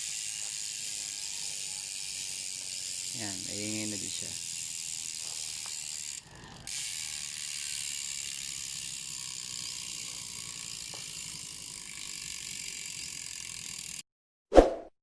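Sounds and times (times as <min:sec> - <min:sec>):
freehub ratchet clicking: 0:00.0 - 0:14.0.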